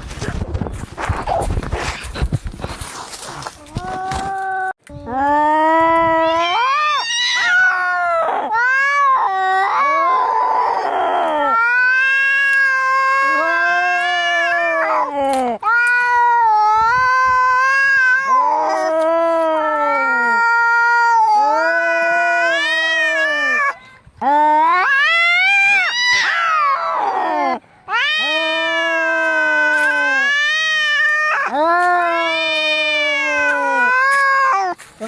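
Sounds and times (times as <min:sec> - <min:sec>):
cats yowling in a fight: 0:06.1 - 0:23.8, 0:24.4 - 0:34.9.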